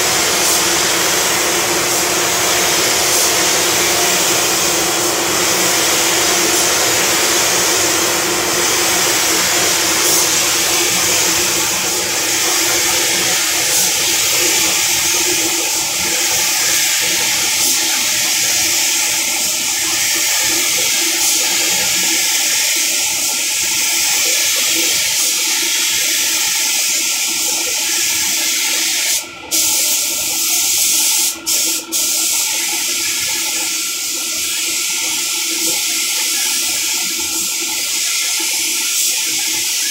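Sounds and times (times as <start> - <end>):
paint booth airflow: 0.0 - 39.9
paint spray gun hissing: 0.0 - 39.9.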